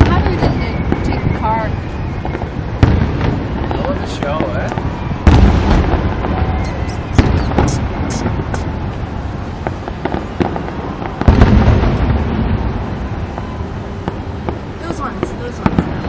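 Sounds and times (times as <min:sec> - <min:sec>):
firework shells booming: 0:00.0 - 0:16.0
fireworks crackling and popping: 0:00.0 - 0:16.0.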